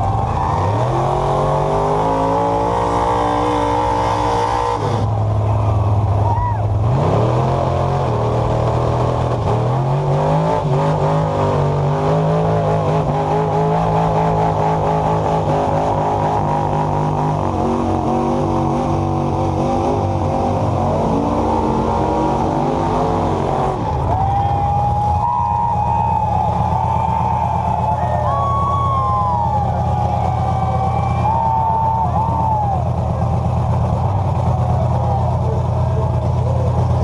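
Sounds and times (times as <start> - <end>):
truck engine at full throttle: 0.0 - 37.0.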